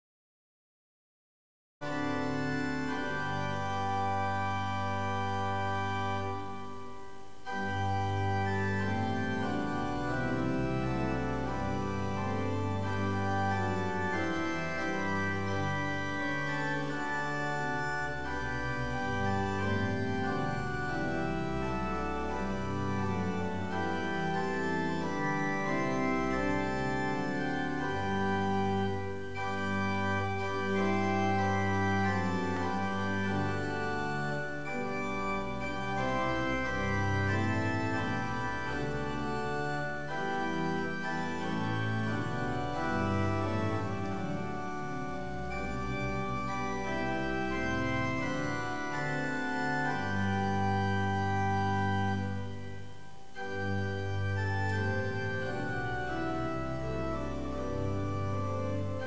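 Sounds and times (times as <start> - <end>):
church organ chords: 1.8 - 59.0.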